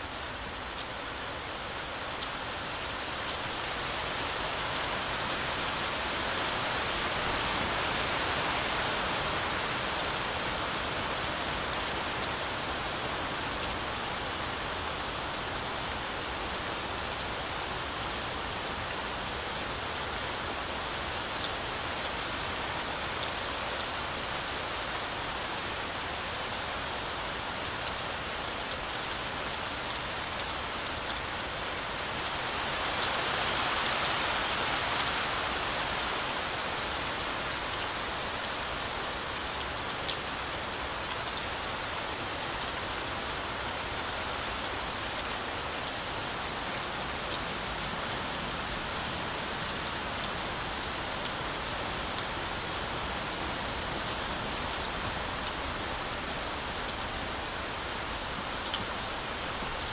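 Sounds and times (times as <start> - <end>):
heavy rain on trees: 0.0 - 59.9.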